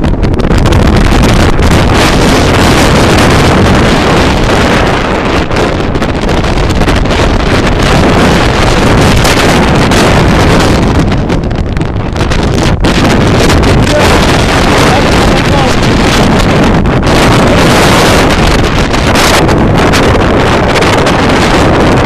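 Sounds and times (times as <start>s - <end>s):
strong wind on microphone: 0.0s - 22.0s.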